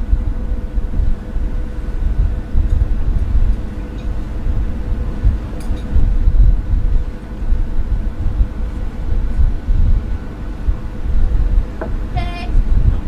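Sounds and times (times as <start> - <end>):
faint boat engine hum: 0.0 - 13.0
wind buffeting microphone: 0.0 - 13.0.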